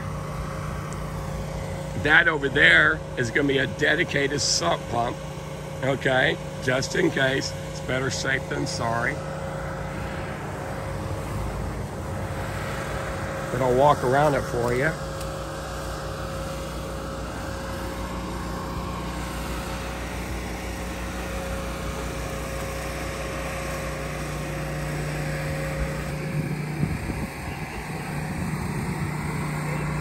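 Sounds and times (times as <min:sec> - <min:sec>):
engine humming steadily: 0:00.0 - 0:30.0.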